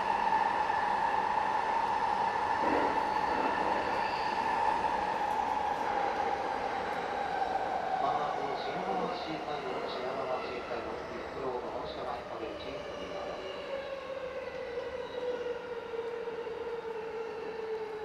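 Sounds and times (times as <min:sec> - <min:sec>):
train interior running noise: 0:00.0 - 0:18.0.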